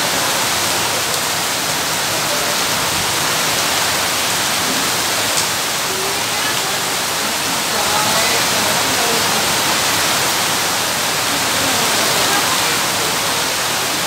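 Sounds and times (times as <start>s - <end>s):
heavy rain on a wet street: 0.0s - 14.0s.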